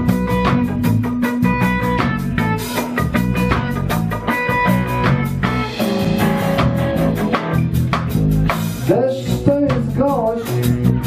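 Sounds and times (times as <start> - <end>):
live band playing instrumental: 0.0 - 11.0.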